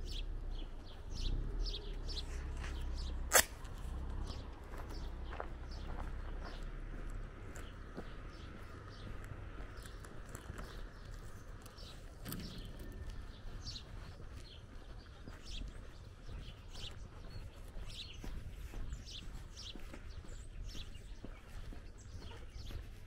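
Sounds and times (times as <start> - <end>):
faint footsteps on asphalt: 0.0 - 23.0
small birds chirping: 0.0 - 23.0.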